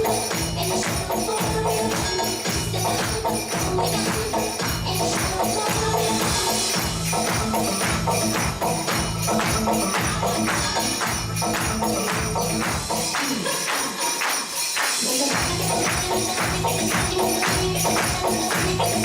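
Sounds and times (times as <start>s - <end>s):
dance music with heavy bass: 0.0s - 19.0s
jingling tambourine-like percussion: 0.0s - 19.0s.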